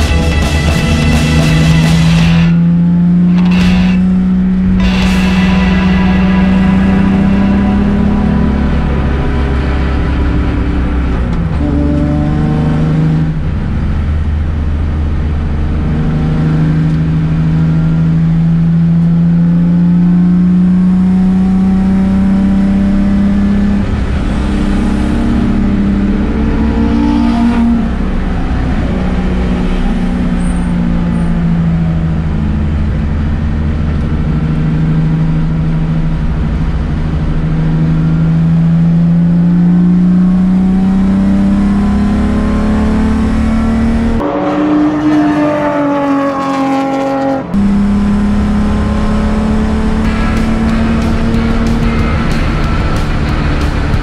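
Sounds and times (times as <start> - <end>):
car engine revving under load: 0.0 - 54.0.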